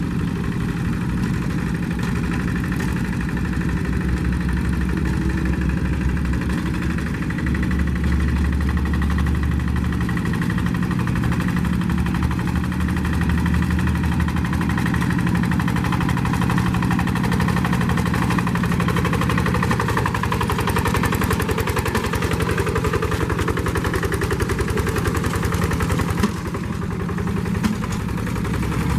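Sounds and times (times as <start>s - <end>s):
hand tractor diesel engine chugging: 0.0s - 28.9s.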